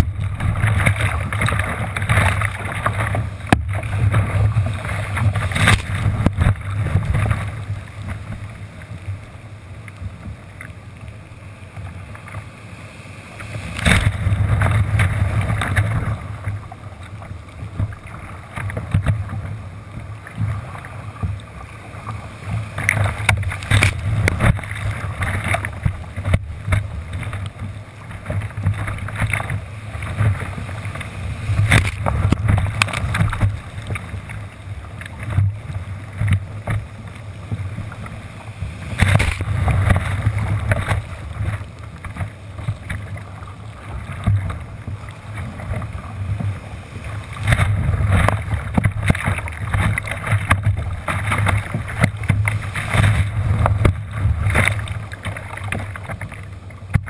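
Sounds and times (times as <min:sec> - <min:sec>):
wind rumbling on microphone: 0:00.0 - 0:12.5, 0:13.3 - 0:57.0
surf and whitewater rushing: 0:00.0 - 0:57.0.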